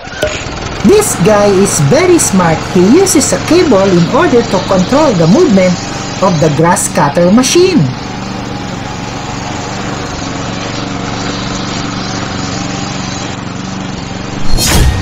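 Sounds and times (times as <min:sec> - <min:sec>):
lawn mower running: 0:00.0 - 0:15.0.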